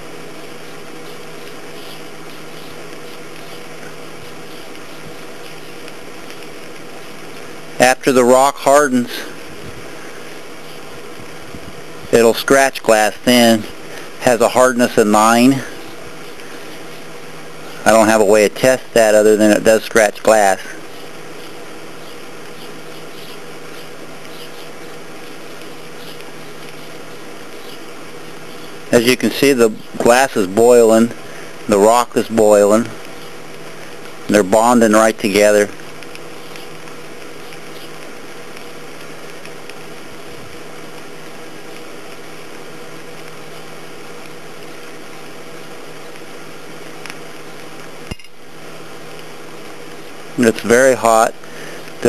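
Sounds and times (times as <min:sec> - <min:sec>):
low hum: 0:00.0 - 0:52.0
torch flame hissing: 0:00.0 - 0:52.0.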